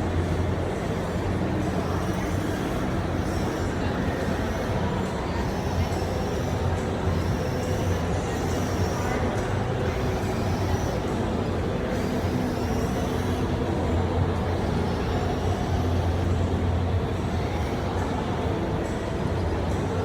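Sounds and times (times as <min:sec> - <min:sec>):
low rumble of busy hall: 0:00.0 - 0:20.0
murmur of voices: 0:00.0 - 0:20.0.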